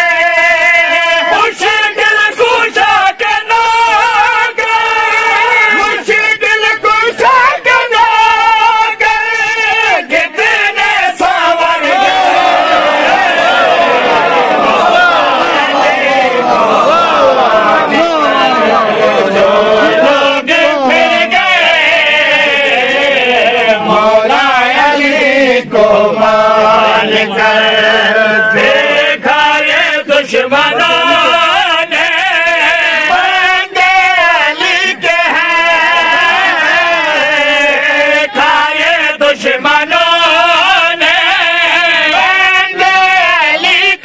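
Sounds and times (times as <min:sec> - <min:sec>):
men chanting: 0:00.0 - 0:44.0.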